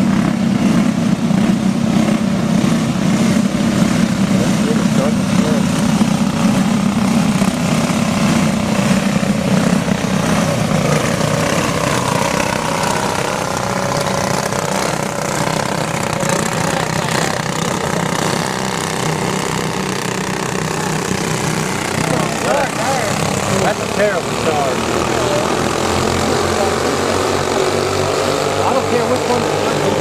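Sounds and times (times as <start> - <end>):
go-kart engines racing: 0.0 - 30.0.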